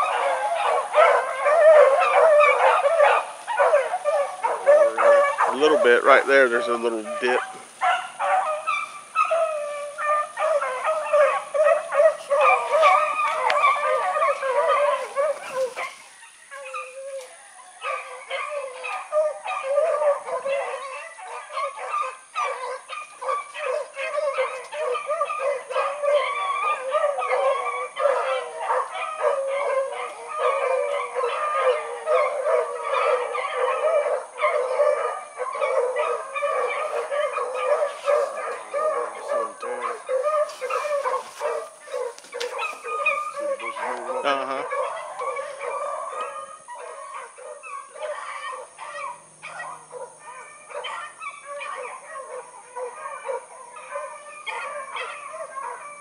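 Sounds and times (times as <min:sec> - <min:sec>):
dogs baying: 0:00.0 - 0:56.0.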